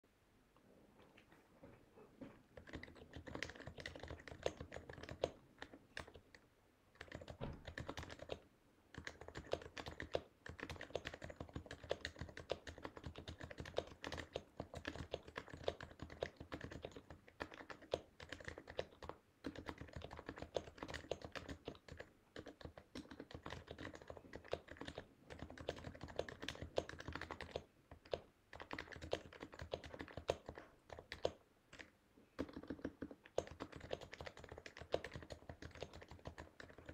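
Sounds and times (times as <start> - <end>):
fast keyboard typing: 2.5 - 36.9.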